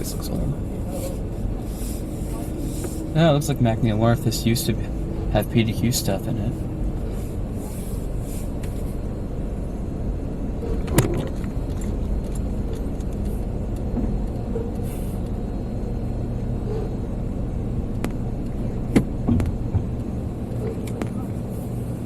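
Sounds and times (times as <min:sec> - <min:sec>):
car idling: 0:00.0 - 0:22.0.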